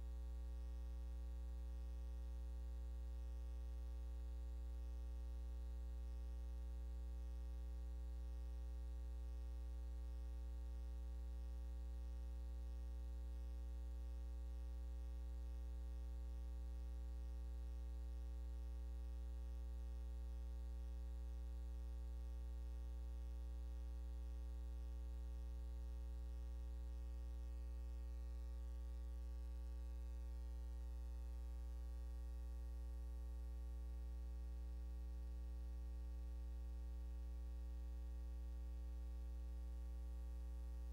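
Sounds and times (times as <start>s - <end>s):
low electrical hum: 0.0s - 40.9s.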